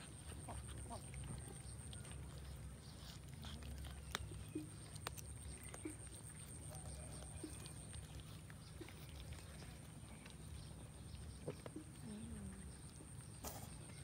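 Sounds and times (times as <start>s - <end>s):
kittens chewing and lapping: 0.0s - 14.0s.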